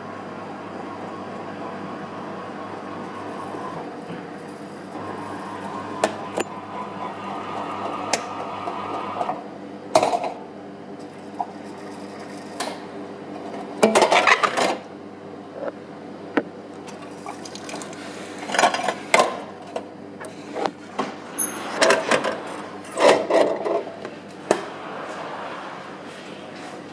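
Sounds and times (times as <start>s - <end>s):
vending machine mechanical hum: 0.0s - 26.9s.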